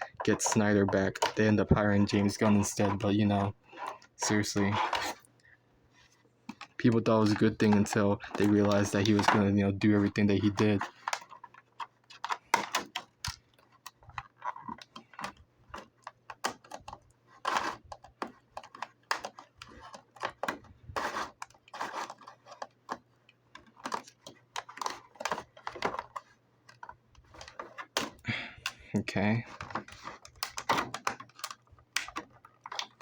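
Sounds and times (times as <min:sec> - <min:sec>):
plastic packaging crinkling: 0:06.4 - 0:33.0.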